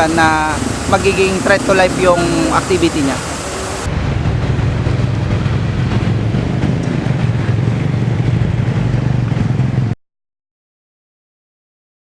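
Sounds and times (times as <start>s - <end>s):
engine rumble with low hum: 0.0s - 10.0s.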